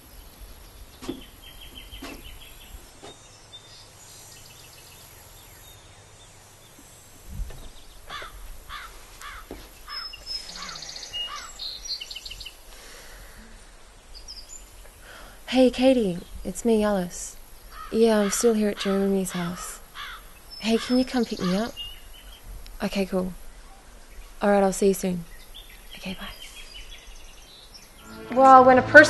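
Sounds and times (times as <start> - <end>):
birds calling: 0.0 - 28.3.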